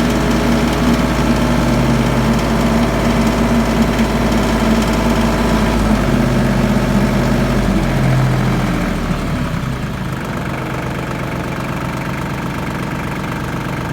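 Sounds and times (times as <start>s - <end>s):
tractor diesel engine: 0.0s - 13.9s.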